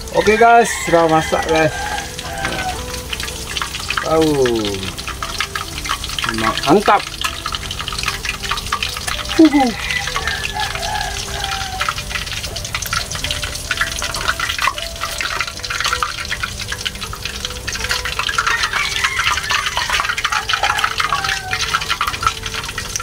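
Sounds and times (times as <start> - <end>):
oil sizzling in a wok: 0.0 - 23.0.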